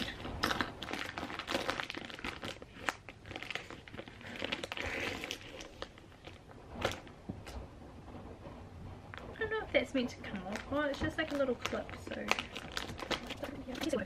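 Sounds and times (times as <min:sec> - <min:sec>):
plastic bag crinkling: 0:00.0 - 0:07.6, 0:09.1 - 0:14.0.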